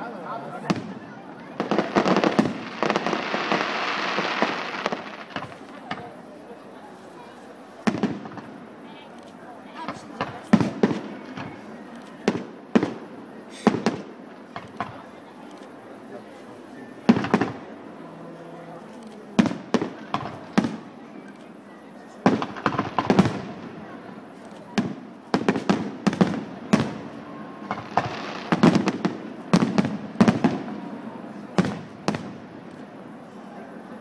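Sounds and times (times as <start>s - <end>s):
fireworks bursting with sharp bangs: 0.5s - 6.4s, 7.4s - 16.2s, 16.9s - 18.0s, 18.9s - 33.3s.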